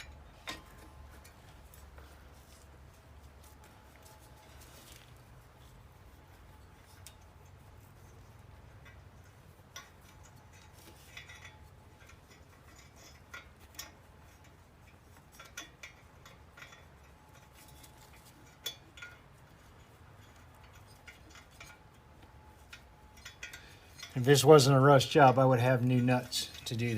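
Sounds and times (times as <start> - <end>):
metal tools clinking: 0.0 - 2.8, 6.5 - 26.9
low steady hum: 0.0 - 26.9.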